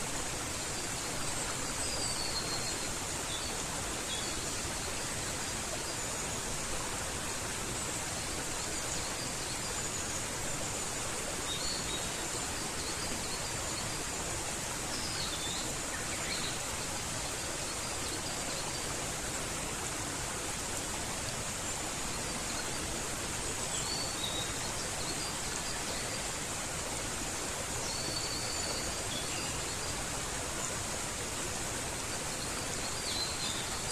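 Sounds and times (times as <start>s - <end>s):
stream rushing: 0.0s - 33.9s.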